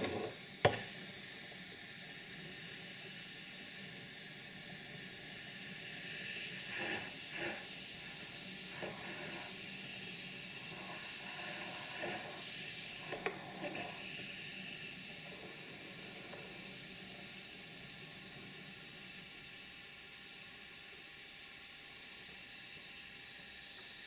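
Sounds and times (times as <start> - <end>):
steam wand frothing milk: 0.0 - 24.0.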